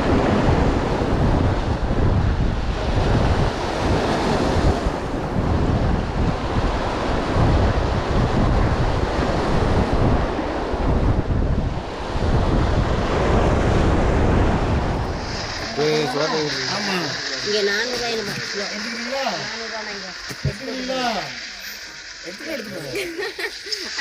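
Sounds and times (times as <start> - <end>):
wind buffeting microphone: 0.0 - 21.4
sea surf washing: 0.0 - 24.0.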